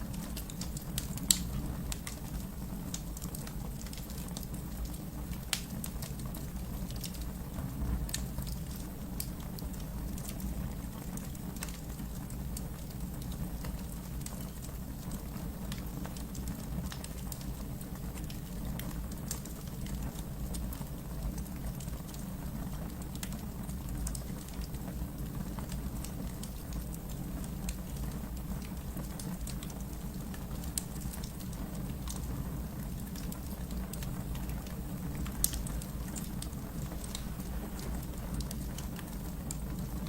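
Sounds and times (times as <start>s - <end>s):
fire flames rumbling: 0.0s - 40.0s
wood crackling and popping: 0.0s - 40.0s.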